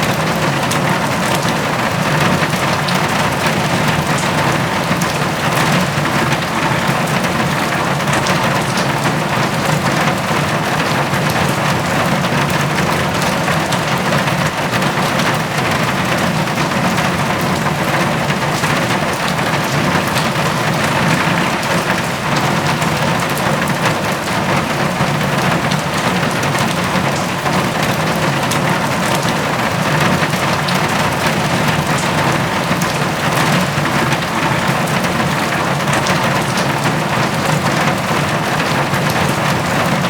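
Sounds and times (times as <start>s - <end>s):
rain on a tin roof: 0.0s - 40.0s.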